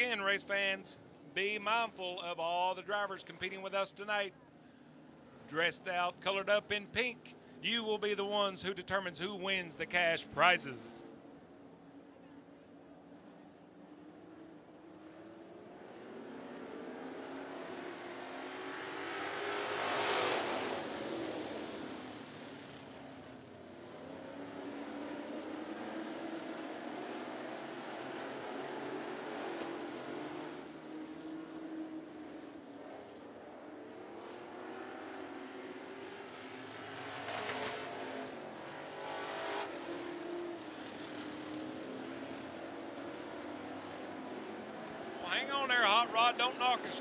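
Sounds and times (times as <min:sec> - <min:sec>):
race car engines passing: 0:00.0 - 0:47.0.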